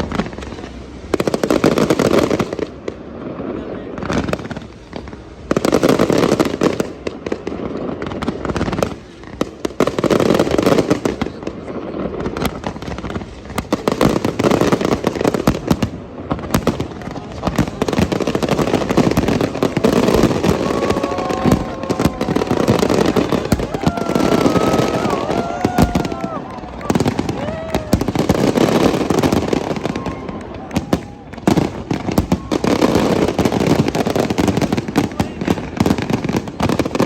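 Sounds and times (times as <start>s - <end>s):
crowd noise: 0.0s - 37.0s
fireworks crackling and bursting: 0.0s - 37.0s.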